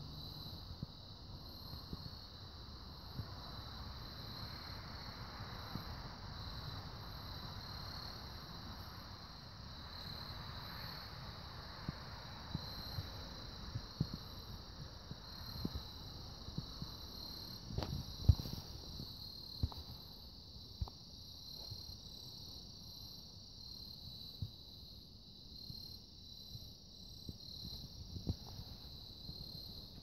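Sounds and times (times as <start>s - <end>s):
insect chorus pulsing: 0.0s - 30.0s.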